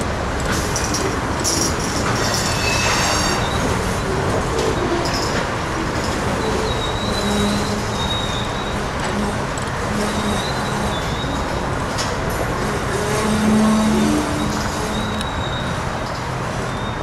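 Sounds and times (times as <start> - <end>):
freight cars rumbling: 0.0 - 17.0
steel wheel squeals: 0.8 - 17.0.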